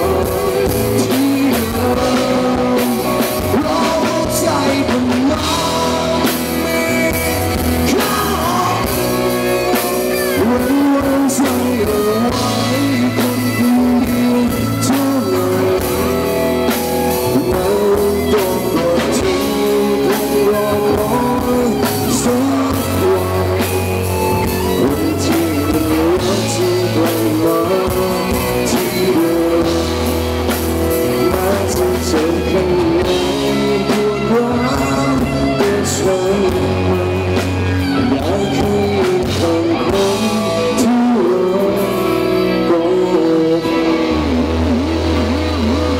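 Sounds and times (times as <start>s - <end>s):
drum kit: 0.0s - 45.9s
electric guitars: 0.0s - 45.9s
man singing lead: 0.0s - 45.9s.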